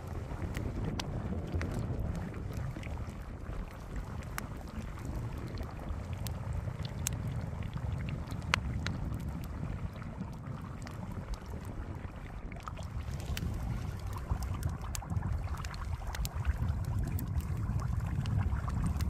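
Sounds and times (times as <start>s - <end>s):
low rumble: 0.0s - 19.0s
sharp crackles and clicks: 0.0s - 19.0s.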